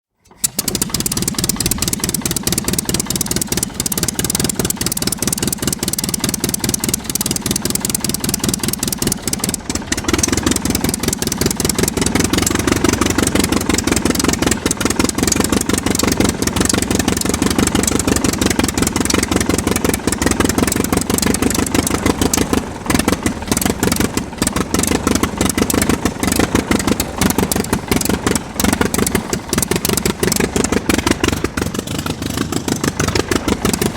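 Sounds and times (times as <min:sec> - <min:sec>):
aircraft engine running: 0:00.3 - 0:33.9.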